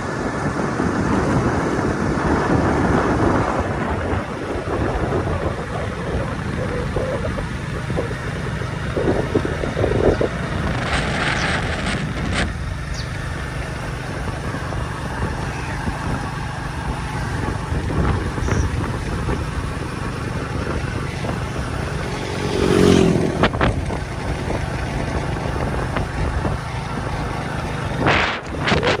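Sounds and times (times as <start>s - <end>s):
road and wind noise: 0.0s - 29.0s
vehicle engine running: 0.0s - 29.0s.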